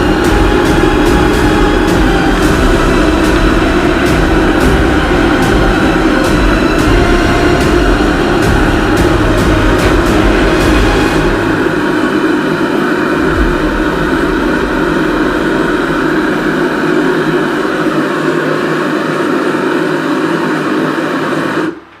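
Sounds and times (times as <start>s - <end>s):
forge burner rushing: 0.0s - 22.0s.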